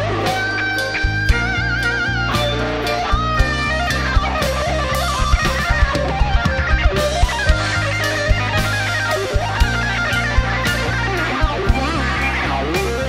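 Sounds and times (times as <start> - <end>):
drums: 0.0 - 13.0
electric guitar melody: 0.0 - 13.0
keyboards: 0.0 - 13.0.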